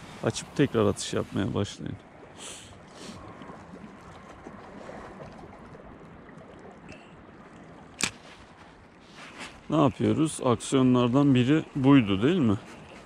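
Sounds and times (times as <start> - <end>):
sea water washing: 0.0 - 13.0
wind: 0.0 - 13.0.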